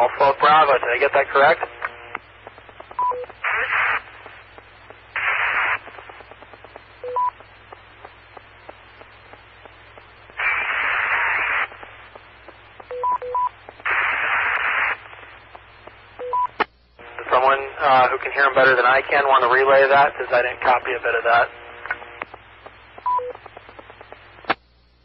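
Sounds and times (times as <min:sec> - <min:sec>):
faint steady hum: 0:00.0 - 0:25.0
radio static hiss: 0:00.0 - 0:25.0.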